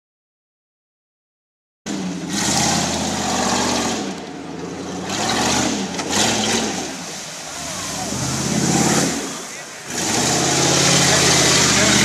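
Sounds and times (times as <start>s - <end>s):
car engine revving: 1.9s - 12.0s.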